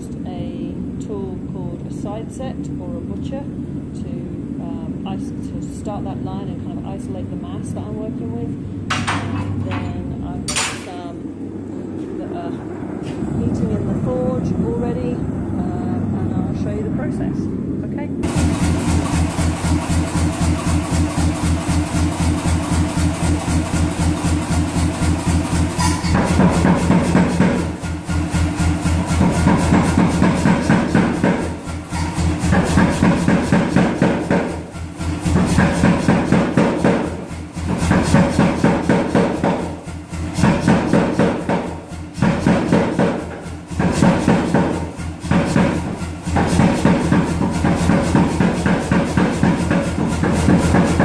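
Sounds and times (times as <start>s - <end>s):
power hammer compressor chuffing: 0.0s - 51.0s.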